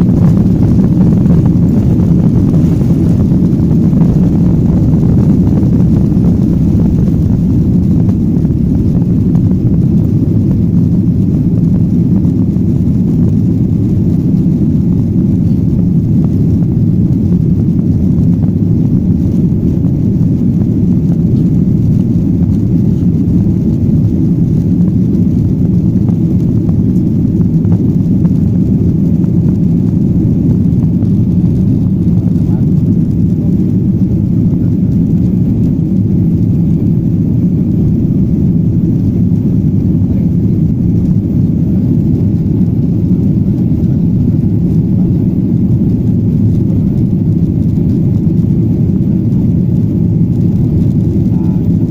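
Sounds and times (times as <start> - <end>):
jet engines rumbling: 0.0 - 51.9.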